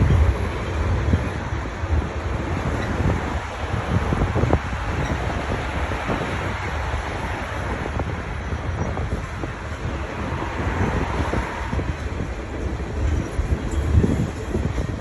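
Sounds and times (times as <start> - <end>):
freight train rumbling: 0.0 - 15.0
wheels clicking on rails: 0.0 - 15.0
wind on microphone: 0.0 - 15.0.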